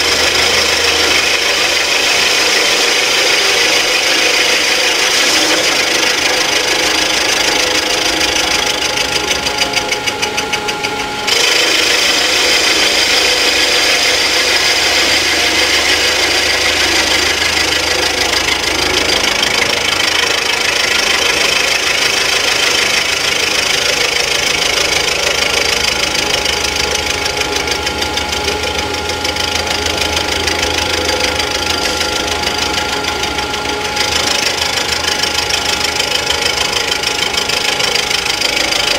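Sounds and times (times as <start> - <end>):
milling machine cutting metal: 0.0 - 38.9.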